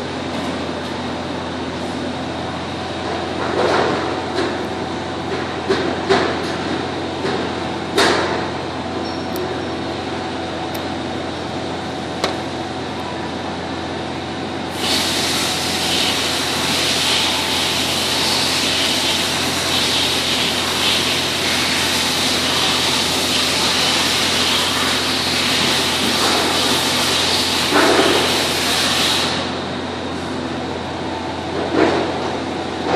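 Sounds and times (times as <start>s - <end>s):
machinery hum and hiss: 0.0s - 32.9s.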